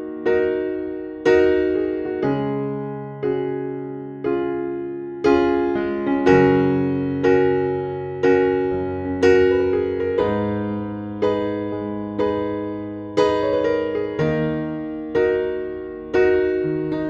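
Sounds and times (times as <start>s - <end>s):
keyboard playing piano chords: 0.0s - 17.0s.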